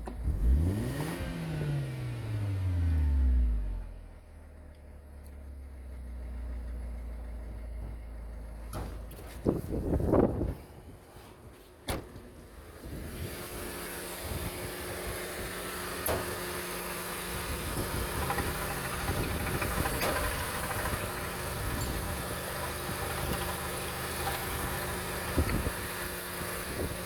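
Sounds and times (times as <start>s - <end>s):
car engine idling: 2.0s - 10.4s, 12.3s - 27.0s.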